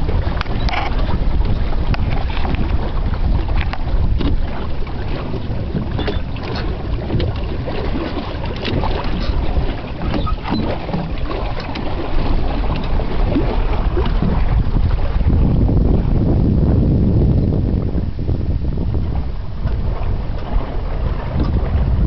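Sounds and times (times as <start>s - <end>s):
water splashing along hulls: 0.0s - 22.0s
wind rumble on microphone: 0.0s - 22.0s.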